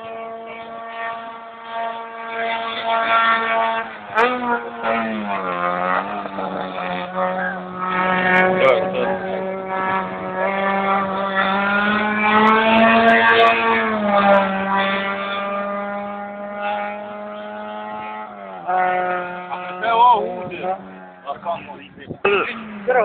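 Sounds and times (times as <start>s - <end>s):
racing car engine at high revs: 0.0s - 23.0s.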